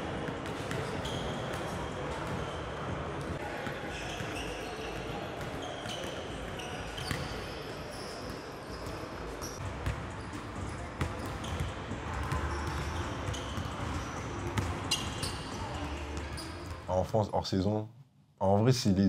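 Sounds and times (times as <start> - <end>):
sneakers squeaking on court: 0.1 - 16.9.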